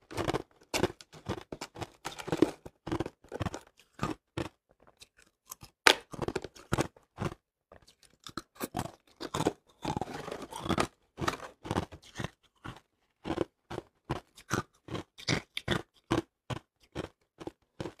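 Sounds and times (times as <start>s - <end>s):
ice being chewed crunching: 0.0s - 18.0s.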